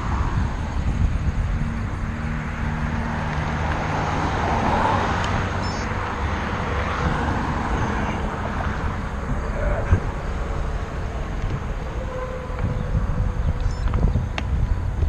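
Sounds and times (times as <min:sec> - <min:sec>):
road traffic passing: 0:00.0 - 0:15.0
vehicle tyre noise: 0:00.0 - 0:15.0
wind rumbling on microphone: 0:00.0 - 0:15.0.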